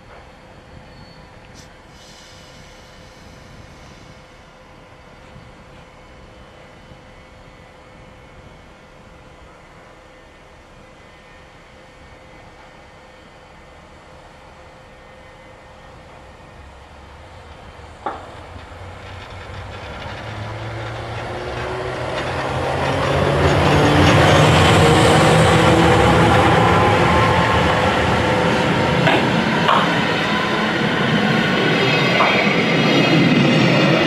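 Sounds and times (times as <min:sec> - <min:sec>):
electric locomotive motor whine: 0:00.0 - 0:34.0
train coaches rolling past: 0:00.0 - 0:34.0.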